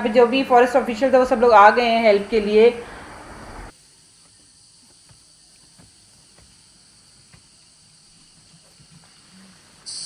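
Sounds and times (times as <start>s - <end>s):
high-pitched insect chorus: 0.1s - 10.0s.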